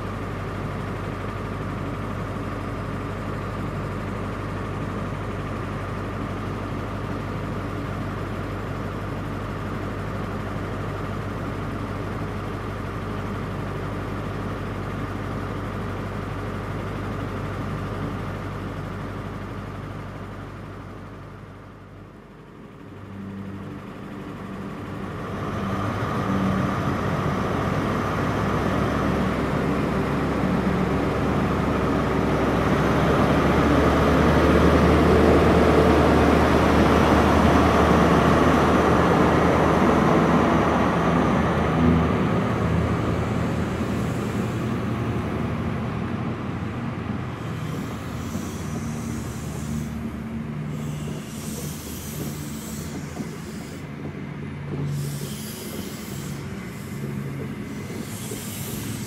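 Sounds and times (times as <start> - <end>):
diesel engine working hard: 0.0 - 59.0
train coaches rumbling on track: 0.0 - 59.0.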